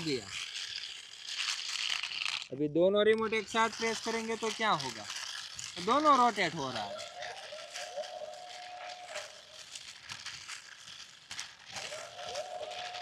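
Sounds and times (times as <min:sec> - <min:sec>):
clicking and crackling: 0:00.0 - 0:13.0
toy motors whirring: 0:00.0 - 0:13.0.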